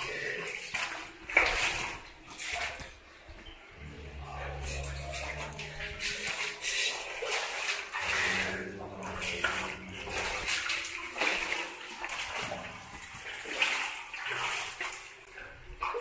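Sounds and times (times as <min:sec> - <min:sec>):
shallow water sloshing: 0:00.0 - 0:16.0.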